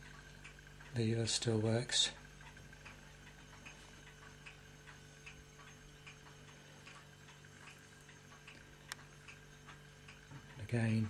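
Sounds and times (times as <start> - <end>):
faint even ticking: 0.0 - 11.0
low steady hum: 0.0 - 11.0.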